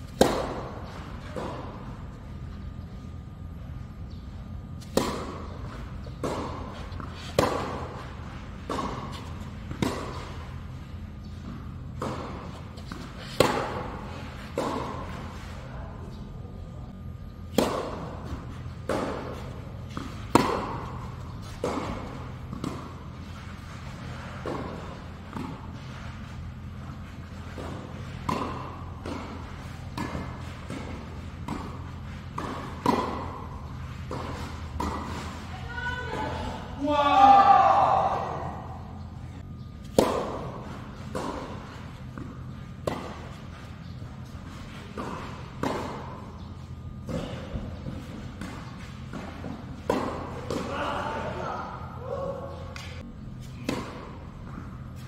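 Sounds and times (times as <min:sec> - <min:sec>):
steady low hum: 0:00.0 - 0:55.0
racket hitting tennis ball: 0:00.1 - 0:02.2, 0:04.8 - 0:15.6, 0:17.5 - 0:36.3, 0:39.8 - 0:51.4, 0:52.7 - 0:55.0.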